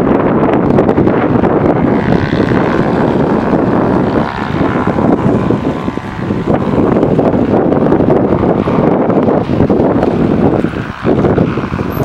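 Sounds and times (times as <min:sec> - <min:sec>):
faint propeller aircraft drone: 0:00.0 - 0:12.0
wind rumbling on microphone: 0:00.0 - 0:12.0.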